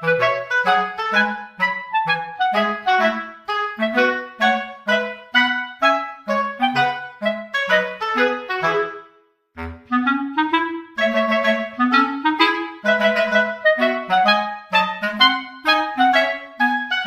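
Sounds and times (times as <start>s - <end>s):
instrumental music with bouncing bass: 0.0s - 17.0s.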